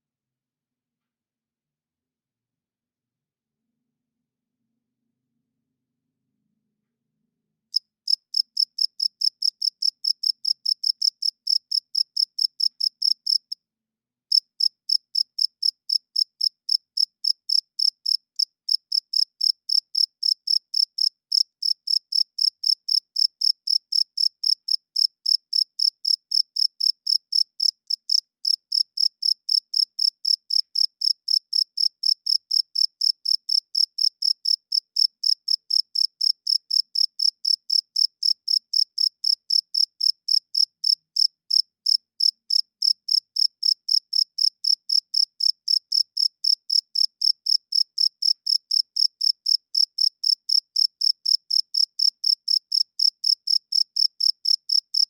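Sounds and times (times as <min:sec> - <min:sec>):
cricket chirping: 0:07.8 - 0:13.6, 0:14.3 - 0:55.0.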